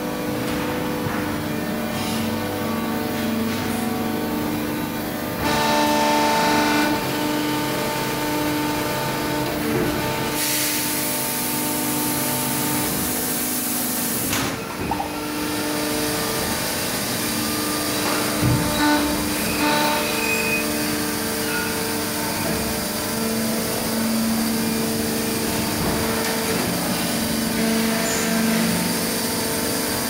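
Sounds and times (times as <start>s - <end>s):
machine hum with whining tones: 0.0s - 30.0s.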